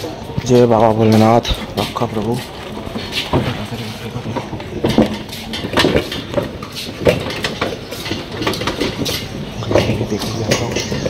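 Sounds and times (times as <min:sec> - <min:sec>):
knocks and rattles: 0:00.3 - 0:11.0.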